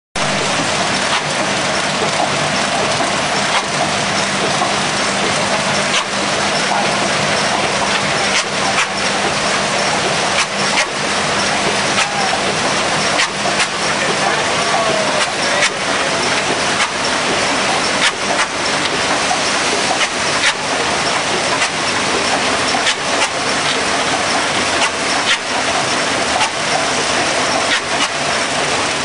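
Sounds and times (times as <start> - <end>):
machine din with low hum: 0.2 - 29.0.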